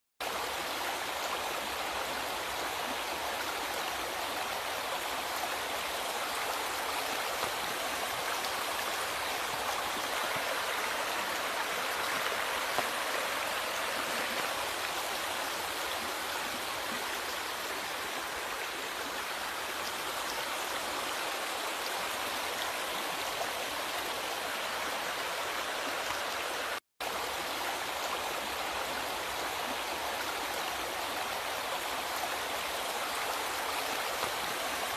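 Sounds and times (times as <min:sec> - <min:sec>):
river water rushing and babbling: 0:00.2 - 0:34.9.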